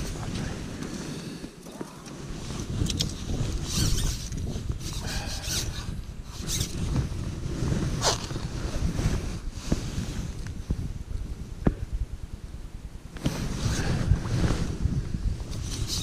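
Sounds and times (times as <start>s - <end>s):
rustling and scraping of tackle: 0.0s - 10.6s, 13.2s - 16.0s
wind rumbling on microphone: 0.0s - 16.0s.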